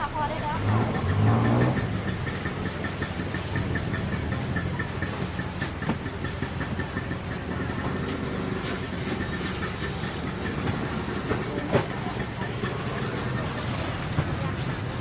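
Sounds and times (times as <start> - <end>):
engine humming with fast ticking: 0.0 - 15.0.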